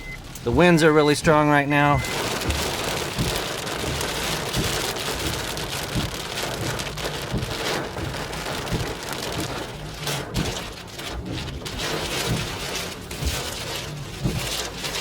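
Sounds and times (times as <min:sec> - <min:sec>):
rain pelting car roof: 0:00.0 - 0:15.0.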